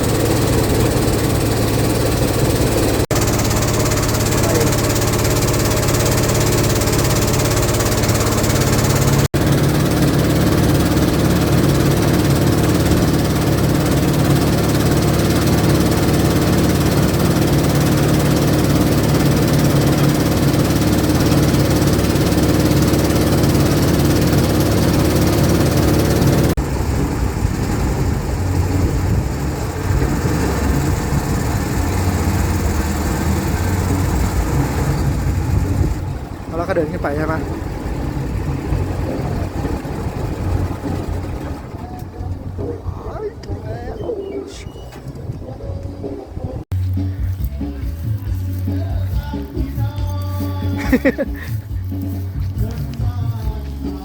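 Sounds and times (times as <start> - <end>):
long-tail boat engine running: 0.0 - 54.0.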